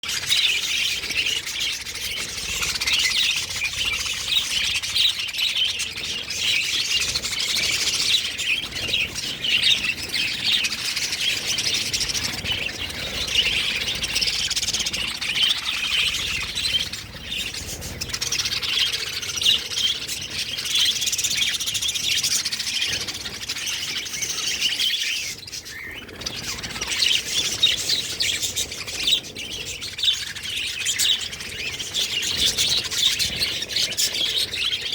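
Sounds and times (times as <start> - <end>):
parrots chirping and twittering: 0.0 - 34.9.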